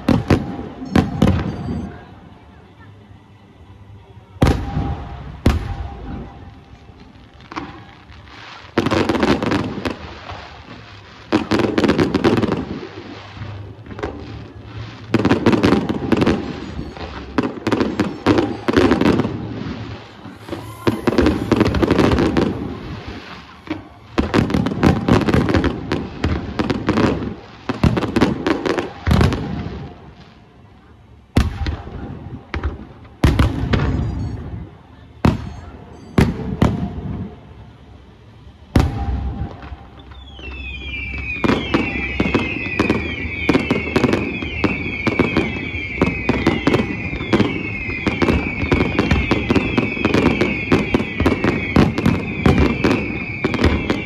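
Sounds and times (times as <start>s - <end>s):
fireworks bangs and crackle: 0.0s - 2.1s, 4.4s - 30.7s, 31.3s - 54.0s.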